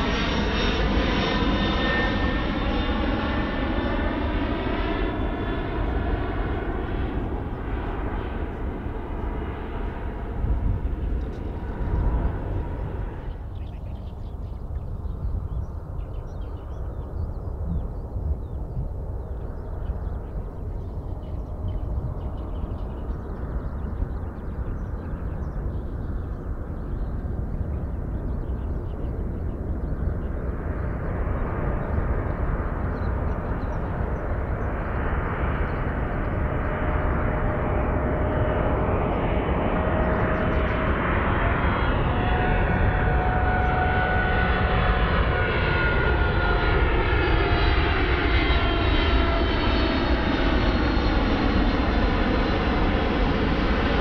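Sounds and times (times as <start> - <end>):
jet airliner engine noise: 0.0 - 54.0.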